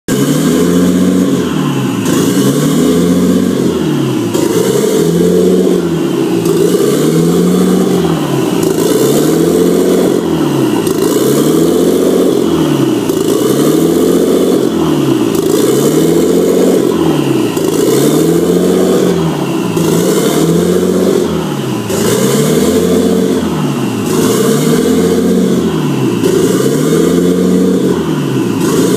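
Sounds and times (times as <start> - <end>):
car engine hunting idle: 0.1 - 28.9.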